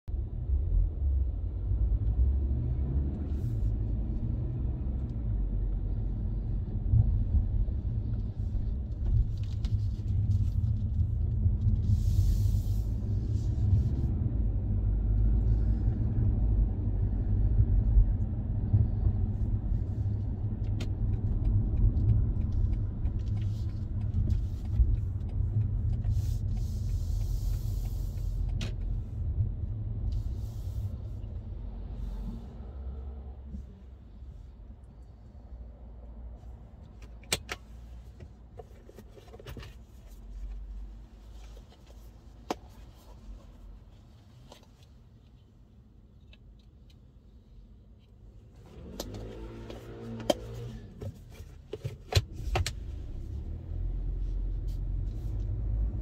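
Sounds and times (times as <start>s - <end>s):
car engine and tyres rumbling: 0.1s - 56.0s.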